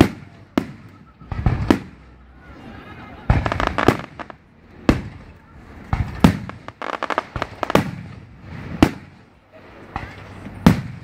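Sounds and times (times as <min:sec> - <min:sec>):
fireworks bangs: 0:00.0 - 0:11.0
fireworks crackles: 0:00.0 - 0:11.0.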